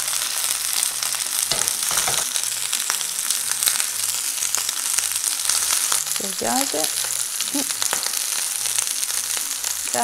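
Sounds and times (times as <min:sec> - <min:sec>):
shrimp sizzling in hot oil: 0:00.0 - 0:10.0.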